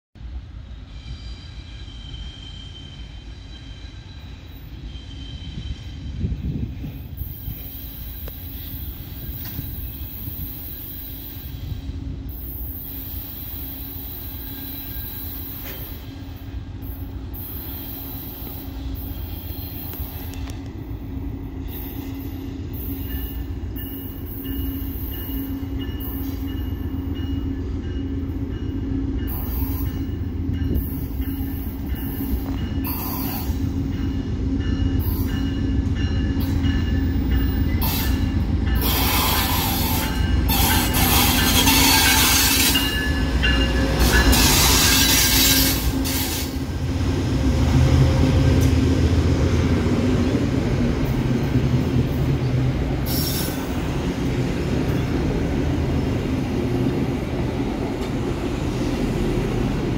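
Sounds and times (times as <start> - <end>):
train low hum and rumble: 0.1 - 59.9
train wheels squealing: 0.4 - 46.7, 51.0 - 54.0.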